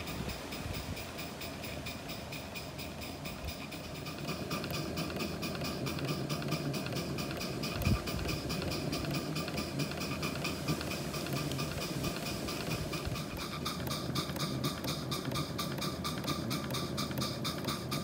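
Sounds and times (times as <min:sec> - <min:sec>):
steady steam hiss: 0:00.0 - 0:18.0
steam engine exhaust beats: 0:00.0 - 0:18.0
valve gear clatter: 0:00.0 - 0:18.0.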